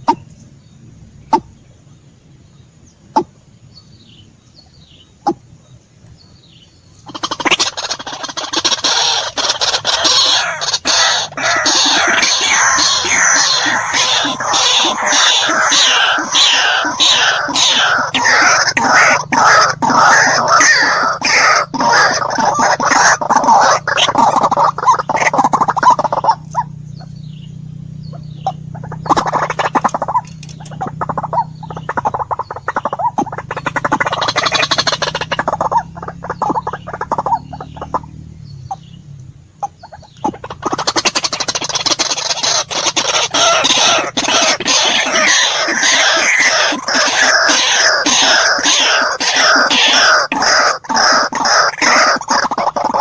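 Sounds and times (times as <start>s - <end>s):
low steady hum: 0.0s - 48.1s
birds croaking harshly: 0.0s - 53.0s.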